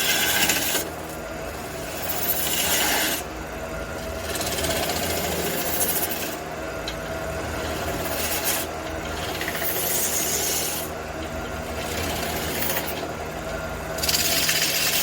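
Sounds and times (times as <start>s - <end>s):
wood lathe motor hum: 0.0s - 15.0s.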